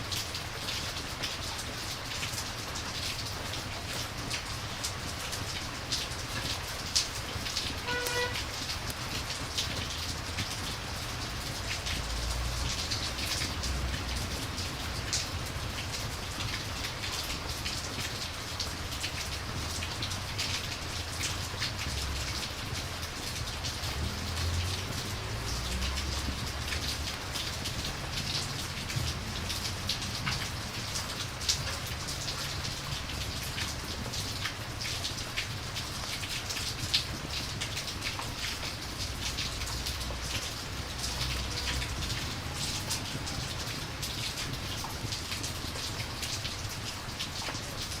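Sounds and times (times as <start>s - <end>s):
raindrops ticking: 0.0s - 48.0s
rain hissing: 1.3s - 48.0s.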